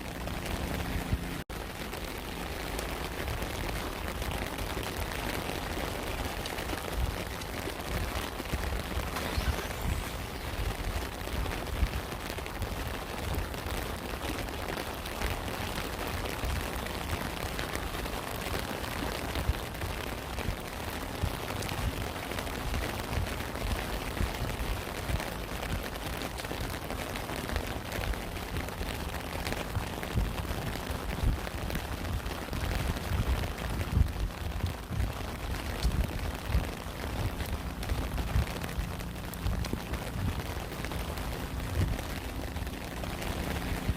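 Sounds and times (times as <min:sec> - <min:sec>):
low uneven rumble: 0:00.0 - 0:43.9
rain falling: 0:00.0 - 0:43.9
raindrop impacts: 0:00.0 - 0:43.9.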